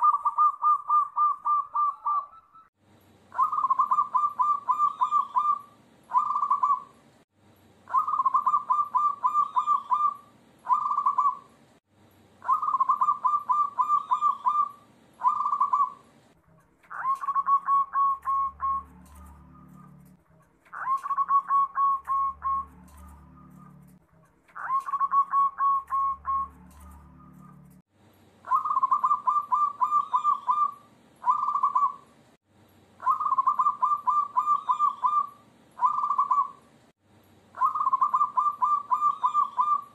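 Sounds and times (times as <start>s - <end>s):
doves cooing: 0.0s - 2.7s, 3.3s - 7.0s, 7.8s - 11.6s, 12.4s - 16.1s, 16.9s - 27.8s, 28.4s - 32.1s, 33.0s - 36.7s, 37.5s - 39.9s.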